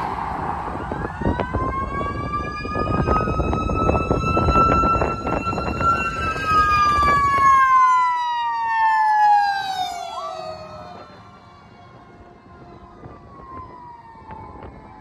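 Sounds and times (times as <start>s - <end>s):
vehicle road rumble: 0.0s - 7.8s, 9.6s - 15.0s
fire engine siren wailing: 0.0s - 15.0s.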